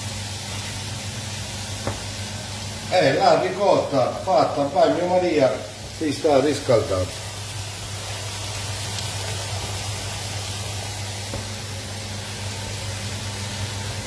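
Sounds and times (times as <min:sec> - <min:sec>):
food sizzling on a hob: 0:00.0 - 0:14.0
pasta boiling: 0:00.0 - 0:14.0.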